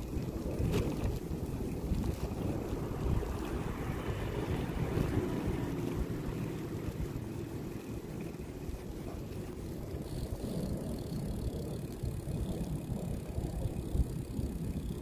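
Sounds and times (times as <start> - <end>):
bicycle tyres rumbling: 0.0 - 15.0
wind on microphone: 0.0 - 15.0.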